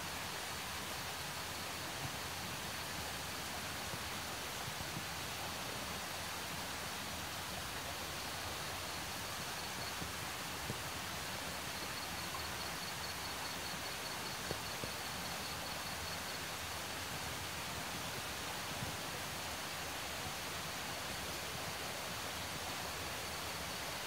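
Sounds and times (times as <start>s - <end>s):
forest ambience hiss: 0.0s - 24.0s.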